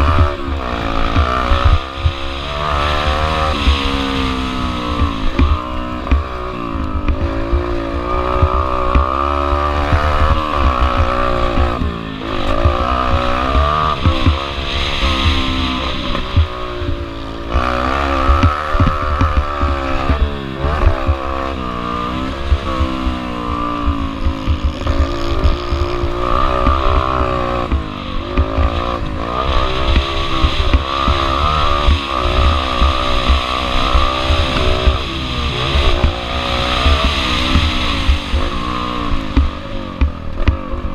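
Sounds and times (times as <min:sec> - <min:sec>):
pit bike engine revving: 0:00.0 - 0:40.9
wind buffeting microphone: 0:00.0 - 0:40.9.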